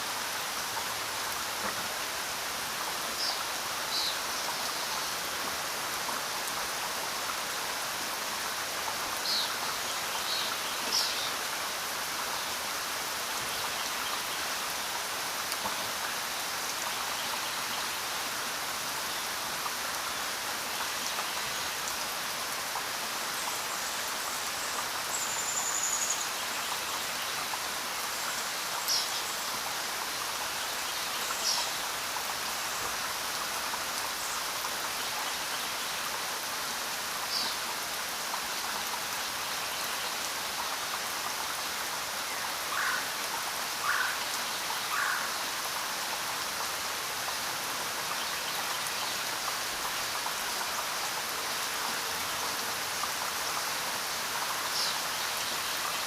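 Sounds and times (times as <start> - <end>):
rain on road and foliage: 0.0 - 56.0.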